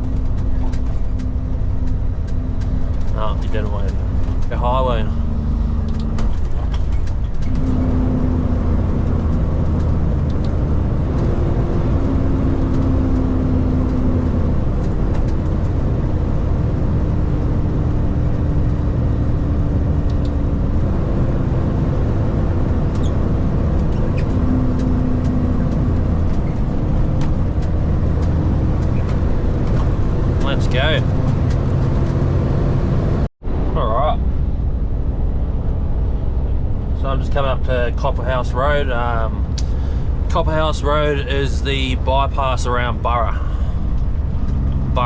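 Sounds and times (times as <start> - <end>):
diesel truck engine droning: 0.0 - 45.0
road and tyre rumble: 0.0 - 45.0.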